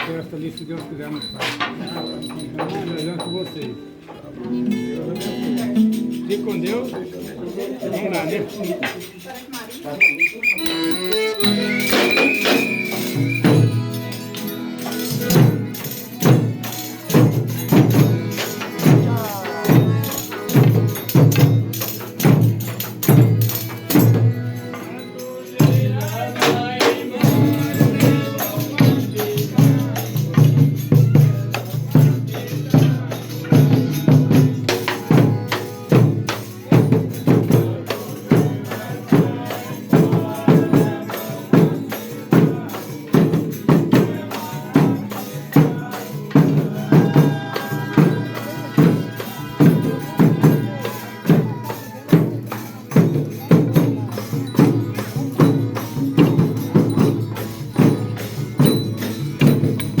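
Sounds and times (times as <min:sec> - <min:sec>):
tambourine beat: 0:00.0 - 0:03.8, 0:05.4 - 1:00.0
folk band playing: 0:00.0 - 1:00.0.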